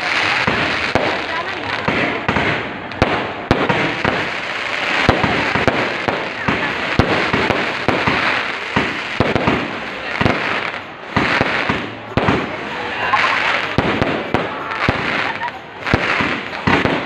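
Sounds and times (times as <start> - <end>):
firecracker bangs: 0.0 - 17.0
fireworks crackling: 0.0 - 17.0.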